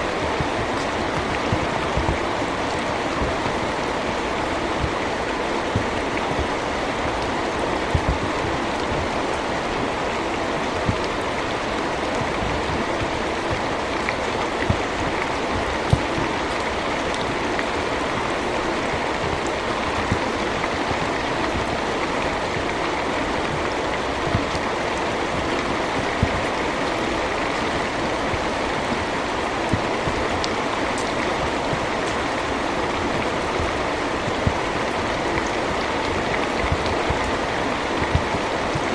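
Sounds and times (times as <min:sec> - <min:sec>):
heavy raindrops landing close: 0:00.0 - 0:38.9
steady rainfall: 0:00.0 - 0:38.9.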